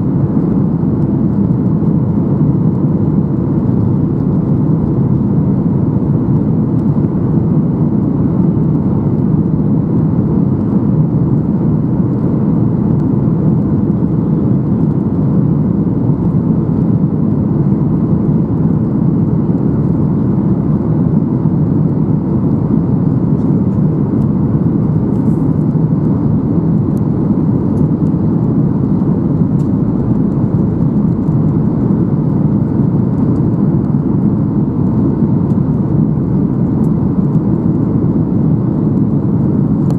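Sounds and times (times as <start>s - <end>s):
aircraft cabin engine roar: 0.0s - 39.9s.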